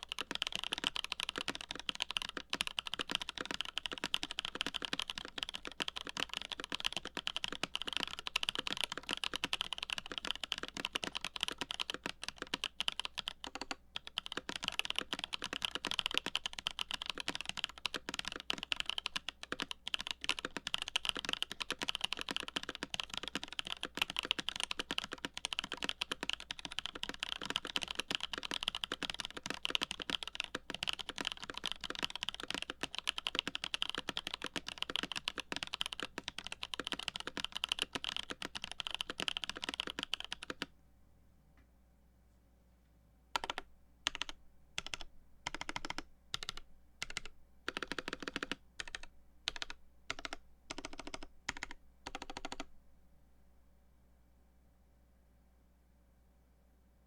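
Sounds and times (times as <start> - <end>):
mechanical keyboard typing: 0.0 - 40.7, 43.4 - 52.7.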